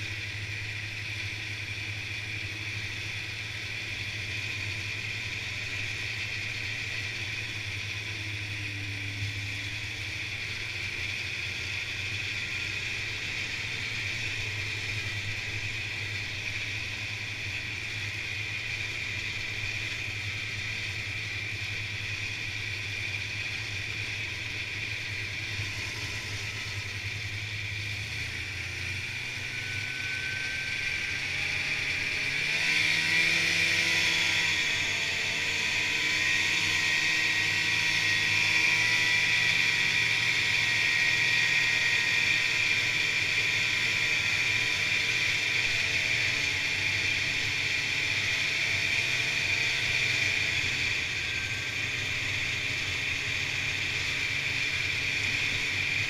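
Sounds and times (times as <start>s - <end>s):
snowmobile engine droning: 0.0s - 56.0s.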